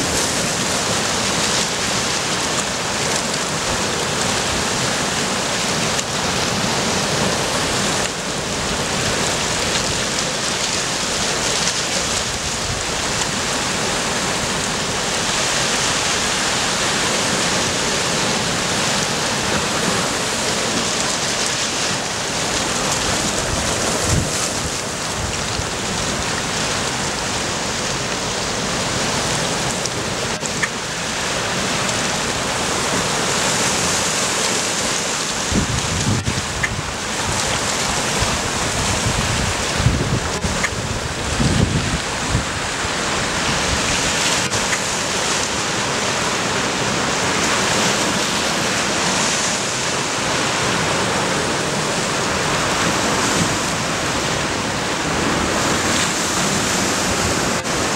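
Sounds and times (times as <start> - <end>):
wind gusting on microphone: 0.0 - 30.4, 31.5 - 57.9
surf washing over rocks: 0.0 - 57.9.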